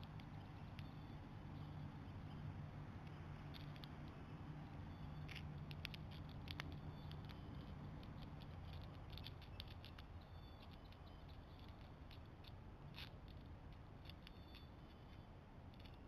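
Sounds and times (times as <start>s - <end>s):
faint high chirps: 0.0s - 12.3s, 14.1s - 16.0s.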